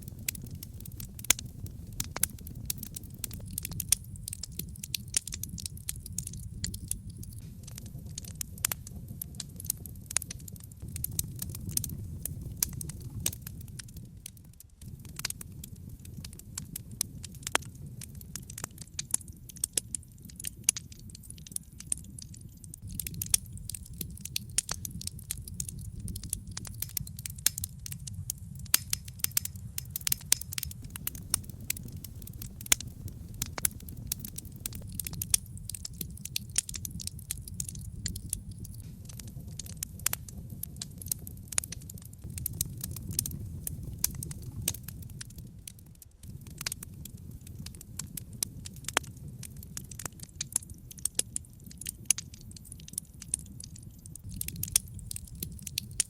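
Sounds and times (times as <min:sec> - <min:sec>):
rush of flame: 0:00.0 - 0:19.9, 0:22.8 - 0:50.2, 0:54.2 - 0:56.0
logs crackling and popping: 0:00.0 - 0:56.0.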